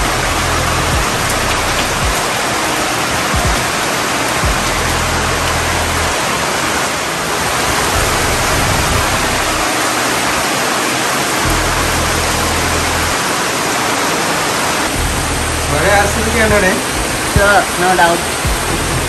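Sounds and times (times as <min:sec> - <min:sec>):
background music with low notes: 0:00.0 - 0:19.0
heavy rain falling: 0:00.0 - 0:19.0.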